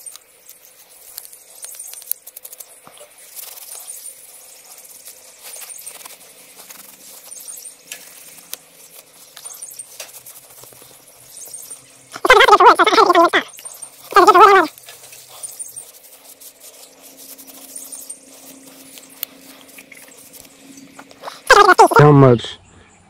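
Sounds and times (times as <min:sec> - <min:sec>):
toothbrush scrubbing: 0:00.0 - 0:22.1
faint high chirp: 0:00.0 - 0:23.0
paper towel rustling: 0:02.4 - 0:22.1.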